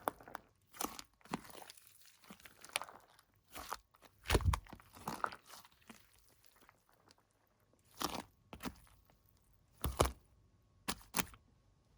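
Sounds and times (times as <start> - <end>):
slime crunching: 0.0 - 11.4.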